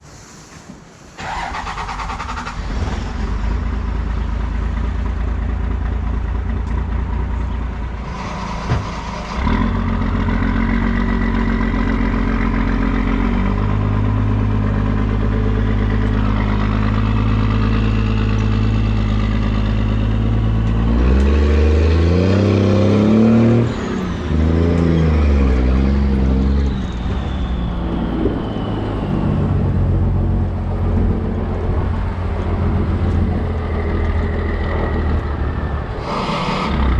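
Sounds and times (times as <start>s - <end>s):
diesel engine shifting gears under load: 1.2s - 36.9s.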